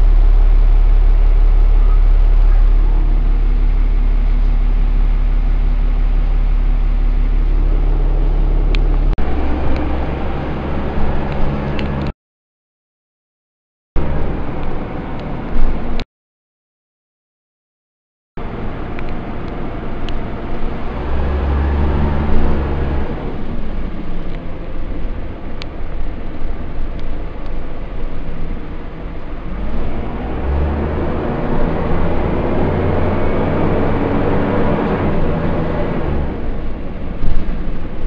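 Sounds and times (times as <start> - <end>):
diesel bus engine pulling: 0.0 - 12.1, 14.0 - 16.0, 18.4 - 38.0
engine cooling fan roar: 0.0 - 12.1, 14.0 - 16.0, 18.4 - 38.0.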